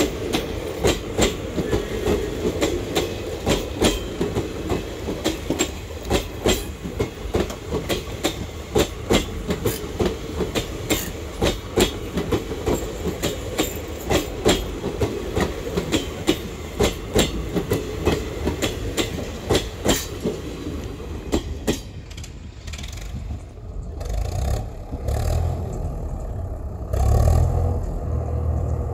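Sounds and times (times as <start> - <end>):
train wheels clattering over rail joints: 0.0 - 26.4
low train rumble: 0.0 - 28.9.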